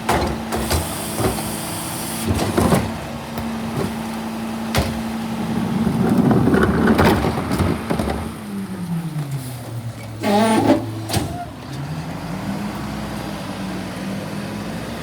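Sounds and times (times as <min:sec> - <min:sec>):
garbage truck engine: 0:00.0 - 0:15.0.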